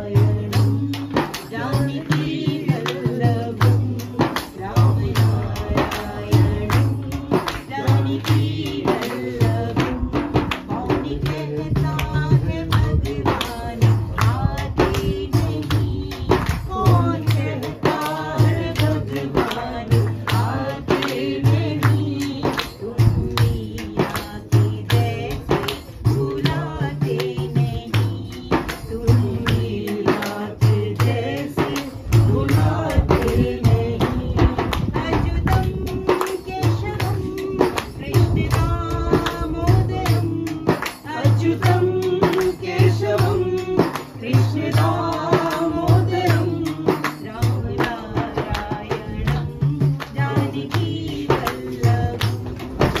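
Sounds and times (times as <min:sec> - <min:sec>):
frame drum beating: 0:00.0 - 0:53.0
group singing: 0:00.0 - 0:53.0.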